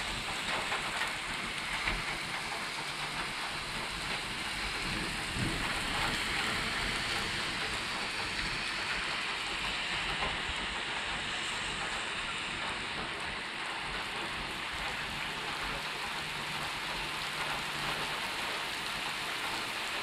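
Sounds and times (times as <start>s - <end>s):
rain falling on asphalt: 0.0s - 20.0s.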